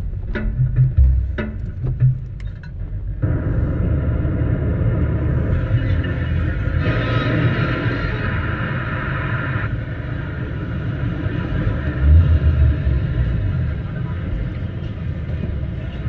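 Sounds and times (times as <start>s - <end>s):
car driving road noise: 0.0s - 16.0s.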